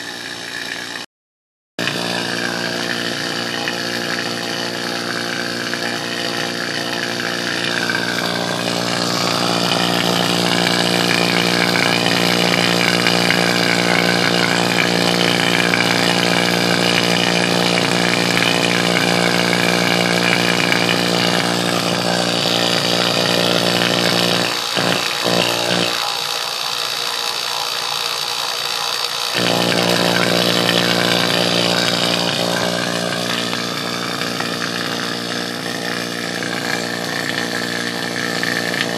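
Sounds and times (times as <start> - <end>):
vacuum pump motor hum: 0.0 - 1.1, 1.8 - 38.9.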